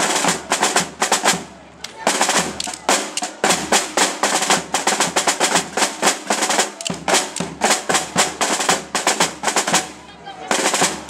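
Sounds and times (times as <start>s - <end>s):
snare drums playing march: 0.0s - 11.0s.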